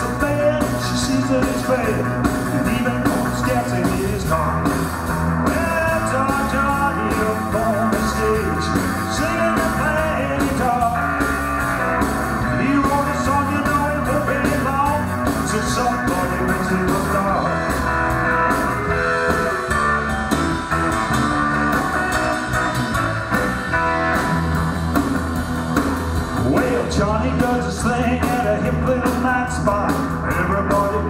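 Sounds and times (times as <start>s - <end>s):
drum kit steady beat: 0.0s - 31.0s
electric bass: 0.0s - 31.0s
electric guitar: 0.0s - 31.0s.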